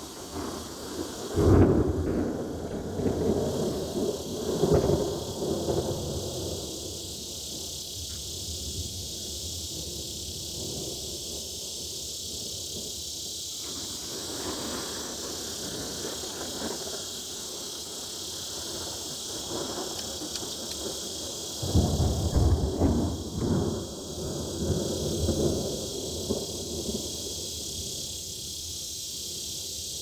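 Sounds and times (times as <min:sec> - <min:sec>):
cicada chorus buzzing: 0:00.0 - 0:30.0.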